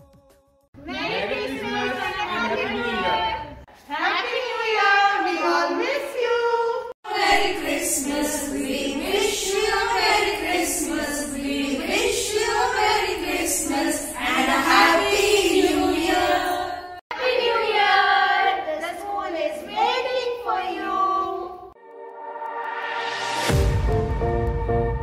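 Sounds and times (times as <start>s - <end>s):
group of voices singing: 0.0s - 25.0s.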